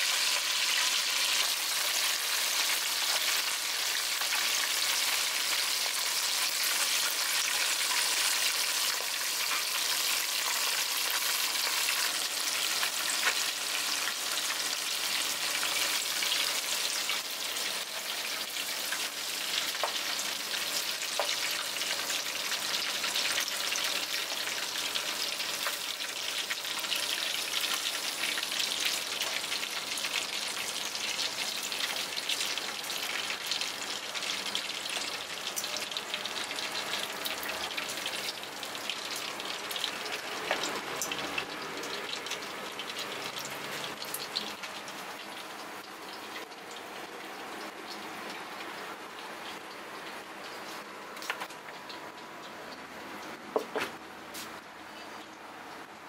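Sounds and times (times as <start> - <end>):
crabs sizzling in hot oil: 0.0 - 55.4.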